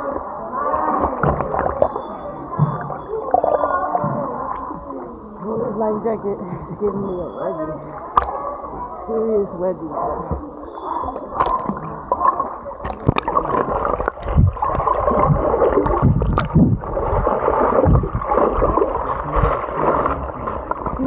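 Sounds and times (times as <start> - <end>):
water sloshing and gurgling: 0.0 - 9.1, 9.9 - 21.0.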